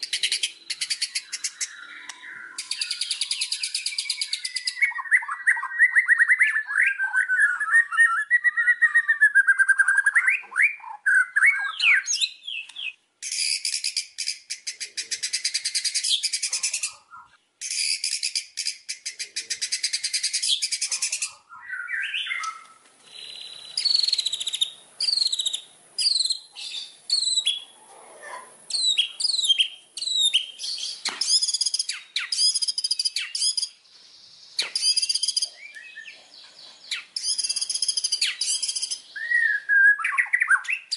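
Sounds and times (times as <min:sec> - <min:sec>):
bird singing whistles and trills: 0:00.0 - 0:27.7, 0:28.7 - 0:40.9.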